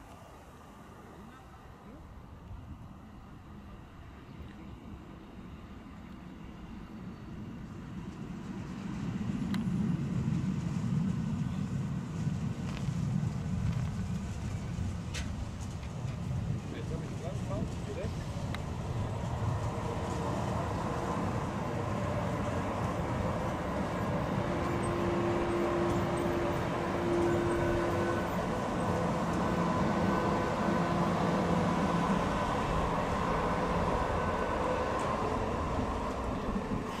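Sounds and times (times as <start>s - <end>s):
train humming tones: 0.0s - 37.0s
train wheels rumbling on rails: 3.5s - 37.0s.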